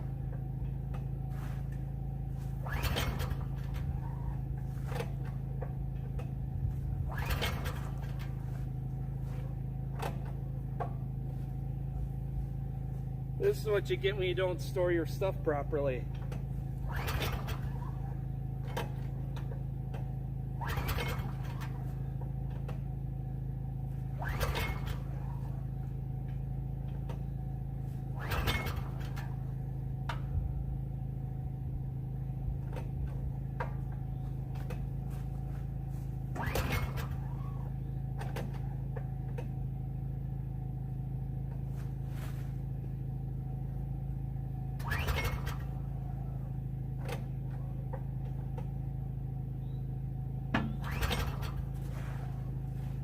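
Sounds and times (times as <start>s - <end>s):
recoil pull-starter whirring: 0.0s - 14.5s, 15.5s - 53.0s
steady low hum: 0.0s - 53.0s.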